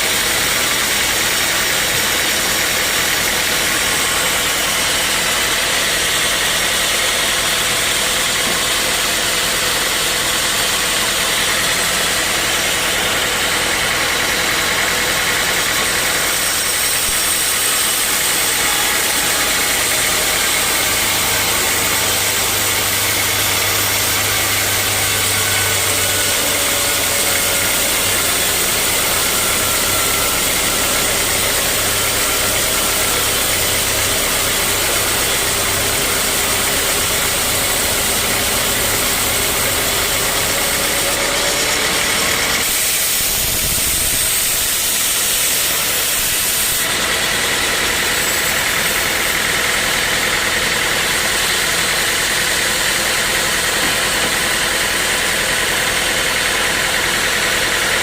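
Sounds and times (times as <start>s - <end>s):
sawmill saw running: 0.0s - 58.0s.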